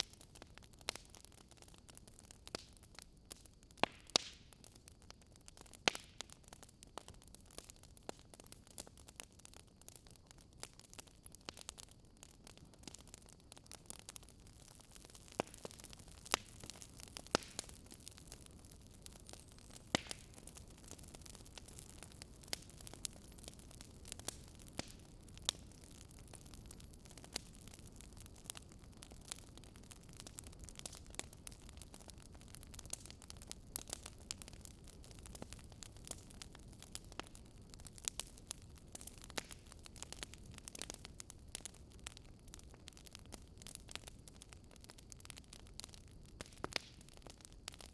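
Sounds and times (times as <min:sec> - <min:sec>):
fireplace crackling and popping: 0:00.0 - 0:47.9.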